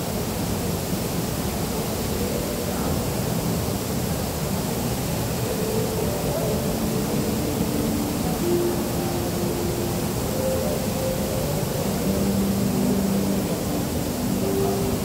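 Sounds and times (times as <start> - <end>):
ventilation and room noise: 0.0 - 15.0.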